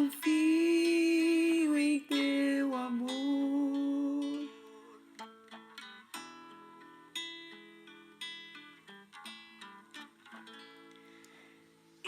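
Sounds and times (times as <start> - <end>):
quiet acoustic guitar playing: 0.0 - 12.0.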